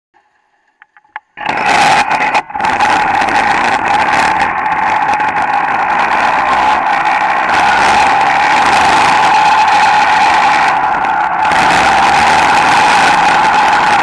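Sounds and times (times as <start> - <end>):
kart engine running: 0.9 - 14.0.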